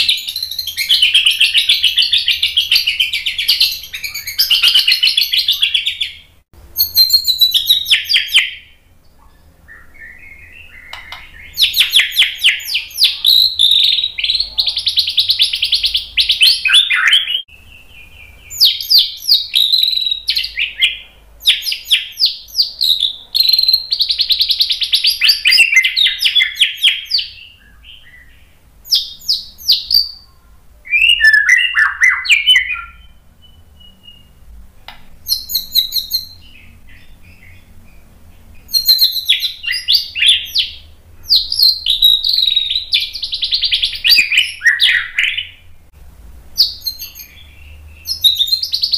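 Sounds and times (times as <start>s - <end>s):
bird singing trills and whistles: 0.0s - 34.5s, 35.2s - 45.7s, 46.6s - 48.9s.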